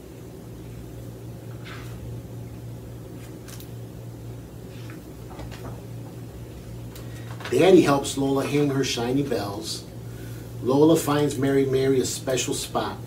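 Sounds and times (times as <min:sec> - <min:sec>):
low background hum: 0:00.0 - 0:13.0
soft hissy noises: 0:00.6 - 0:13.0.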